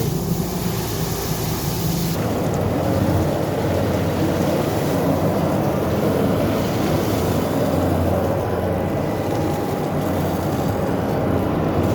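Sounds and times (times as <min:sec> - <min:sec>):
truck engine hum: 0:00.0 - 0:11.9
water rushing: 0:00.0 - 0:11.9.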